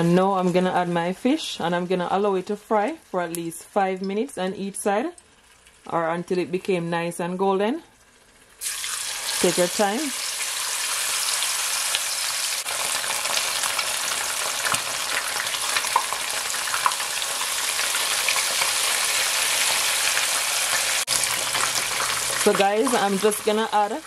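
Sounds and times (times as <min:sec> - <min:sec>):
fish deep-frying in hot oil: 0:02.3 - 0:05.9, 0:08.0 - 0:24.0.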